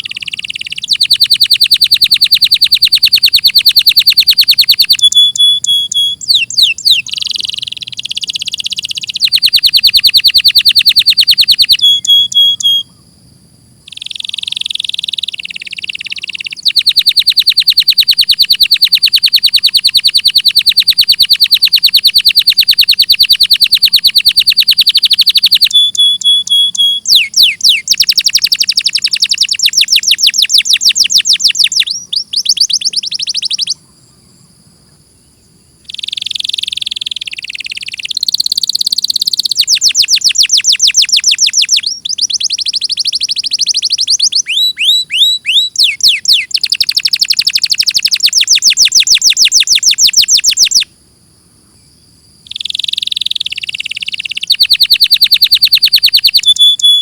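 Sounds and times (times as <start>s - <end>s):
canary singing trills: 0.0s - 13.2s, 13.8s - 34.4s, 35.3s - 50.9s, 52.4s - 57.0s.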